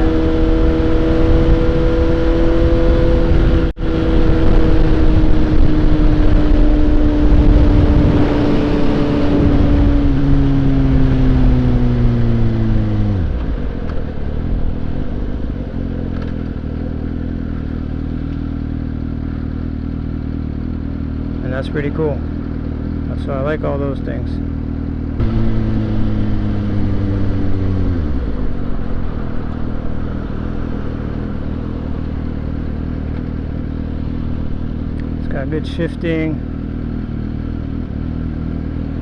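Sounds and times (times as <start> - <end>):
motorcycle engine cruising: 0.0 - 39.0.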